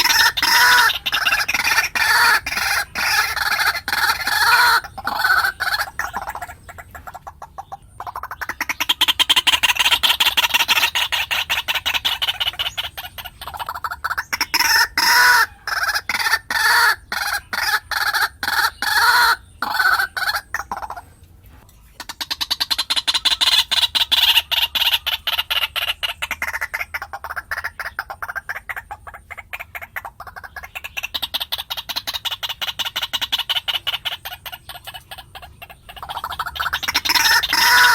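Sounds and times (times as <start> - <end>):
bird croaking calls: 0.0 - 37.9.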